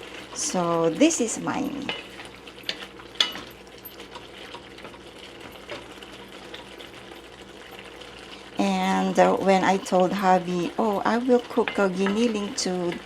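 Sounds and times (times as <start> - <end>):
water bubbling in a pan: 0.0 - 13.0.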